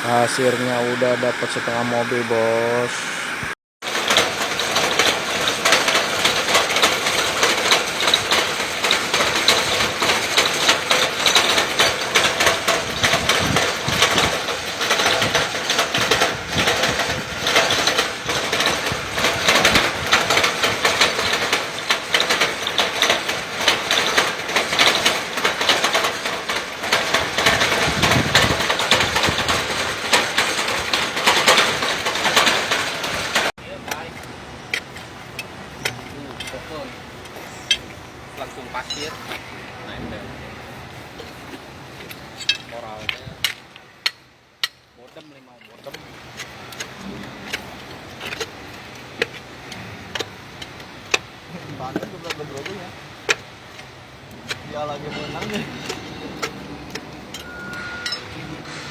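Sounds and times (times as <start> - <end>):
drilling rig rattling: 0.0 - 40.0, 41.0 - 58.9.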